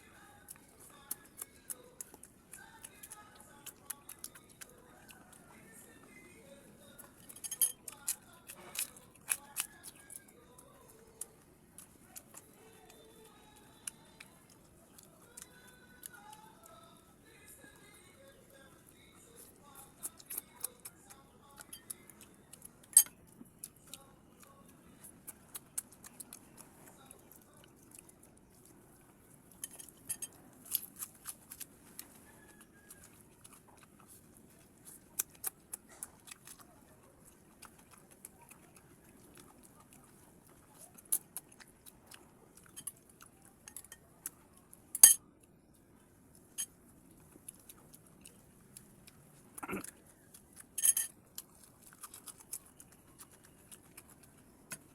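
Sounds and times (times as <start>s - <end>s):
person chewing: 0.0s - 54.9s.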